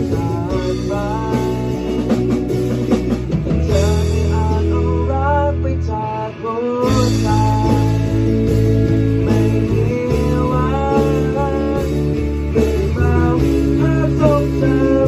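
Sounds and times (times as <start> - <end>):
person singing: 0.0 - 2.7, 3.5 - 15.0
bass guitar: 0.0 - 15.0
drum kit: 0.0 - 15.0
electric guitars: 0.0 - 15.0.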